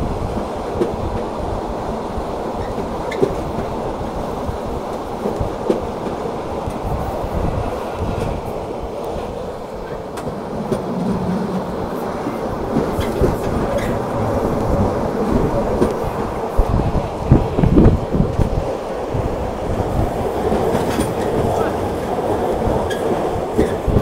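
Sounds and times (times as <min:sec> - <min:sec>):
train knocks: 0:00.0 - 0:24.0
train wheels rumbling on rails: 0:00.0 - 0:24.0.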